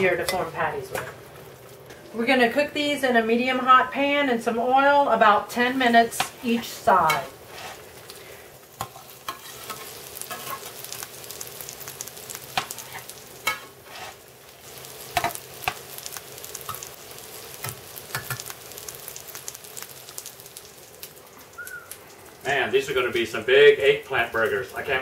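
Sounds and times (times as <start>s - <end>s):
patties sizzling in hot oil: 0.0s - 25.0s.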